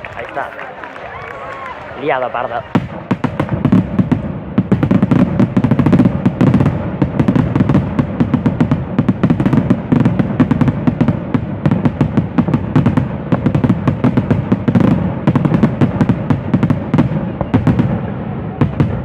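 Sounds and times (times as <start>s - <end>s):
fireworks bangs and booms: 1.2s - 19.0s.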